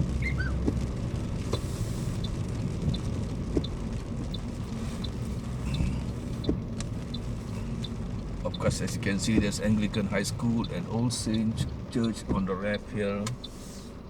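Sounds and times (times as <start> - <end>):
car engine and road rumble: 0.0 - 14.0
faint regular tick: 0.6 - 13.6.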